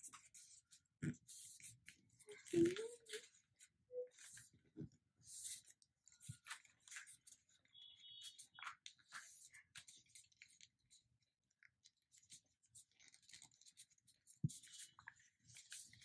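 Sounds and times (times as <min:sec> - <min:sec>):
paper rustling and crinkling: 0:00.0 - 0:04.6, 0:05.2 - 0:16.0.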